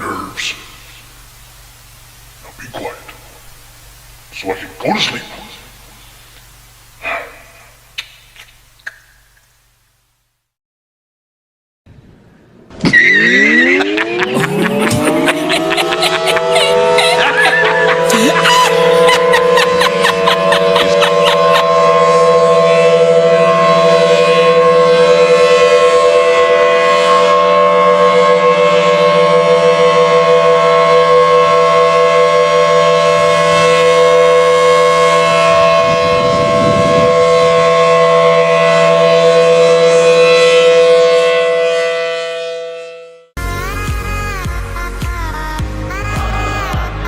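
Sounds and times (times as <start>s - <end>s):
civil defense siren chord: 0.0s - 7.9s, 13.2s - 47.0s.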